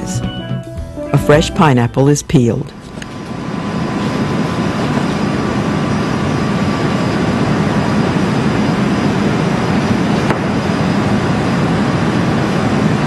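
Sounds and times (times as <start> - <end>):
kitchen fan roar: 1.4 - 13.0.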